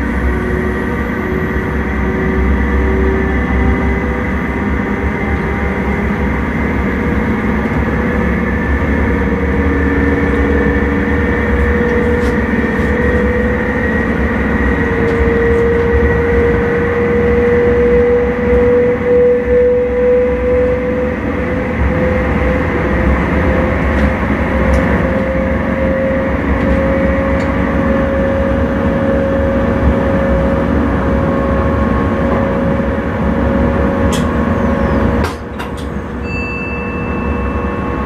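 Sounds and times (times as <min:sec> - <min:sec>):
train running rumble: 0:00.0 - 0:38.0.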